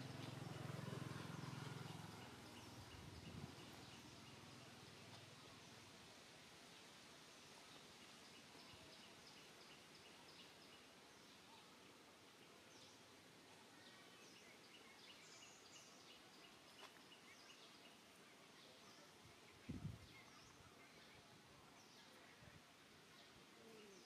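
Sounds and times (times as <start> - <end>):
small birds chirping: 0.0 - 6.0, 6.6 - 24.0.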